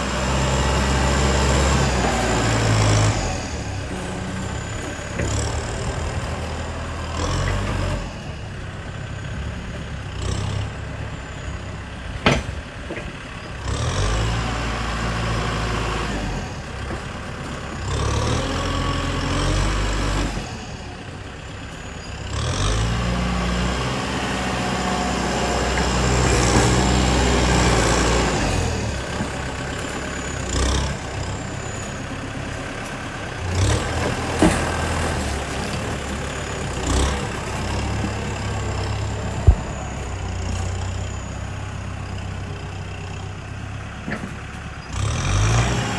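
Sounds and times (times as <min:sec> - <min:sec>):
diesel engines revving: 0:00.0 - 0:45.9.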